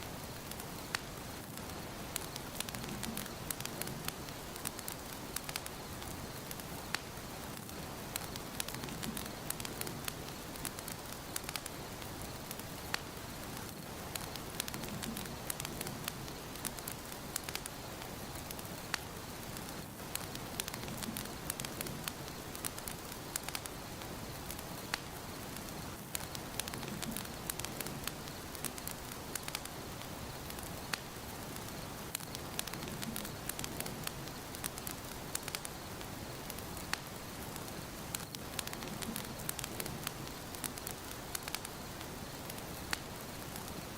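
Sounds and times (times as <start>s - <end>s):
fire crackling in fireplace: 0.0s - 43.9s.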